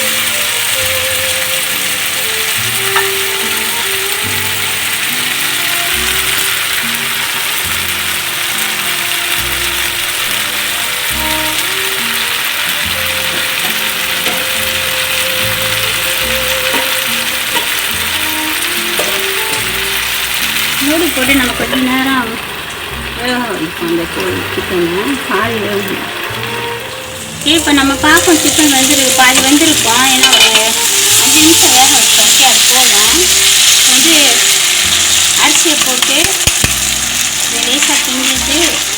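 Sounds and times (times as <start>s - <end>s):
background music with held notes: 0.0s - 38.9s
chicken sizzling in a pan: 0.0s - 38.9s.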